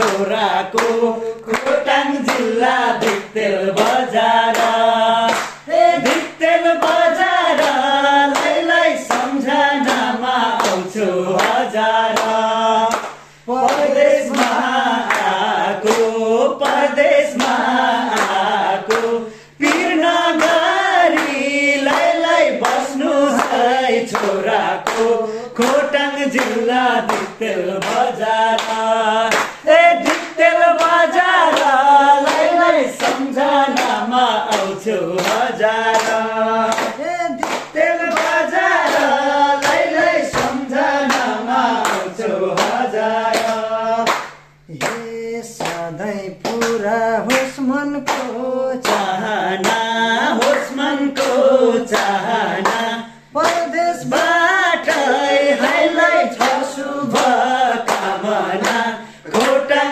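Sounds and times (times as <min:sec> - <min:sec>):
hand clapping: 0:00.0 - 0:59.9
men singing together: 0:00.0 - 0:59.9.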